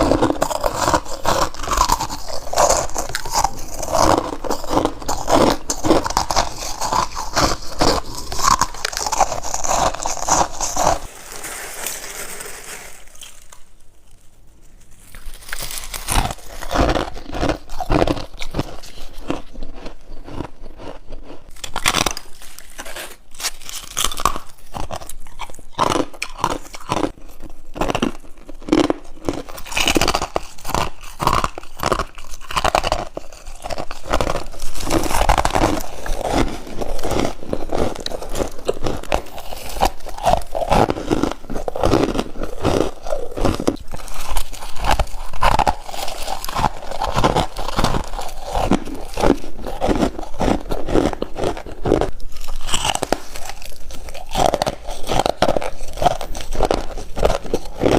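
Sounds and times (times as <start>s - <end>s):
crunching of frost ice bites: 0.0s - 11.1s, 15.0s - 57.9s.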